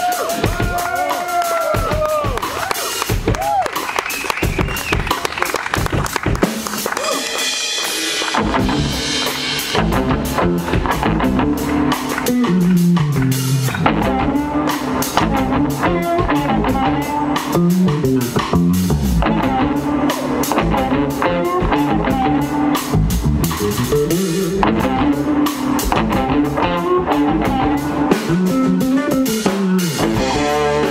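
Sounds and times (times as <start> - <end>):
bass guitar: 0.0 - 30.9
drum kit beat: 0.0 - 30.9
electric guitars: 0.0 - 30.9.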